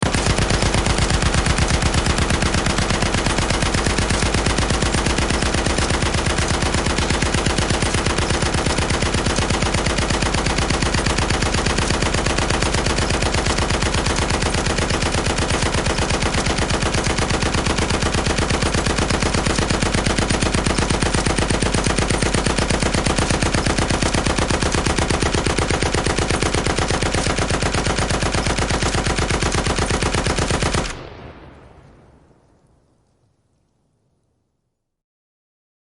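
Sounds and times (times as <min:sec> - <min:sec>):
machine gun firing: 0:00.0 - 0:31.7.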